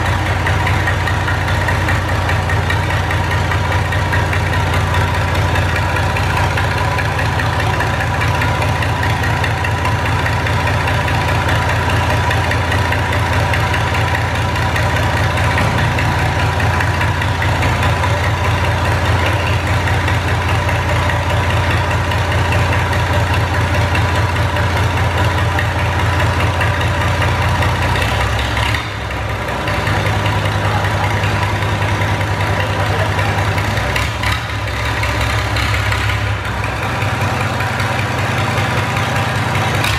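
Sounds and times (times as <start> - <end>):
big engine idling: 0.0 - 39.9.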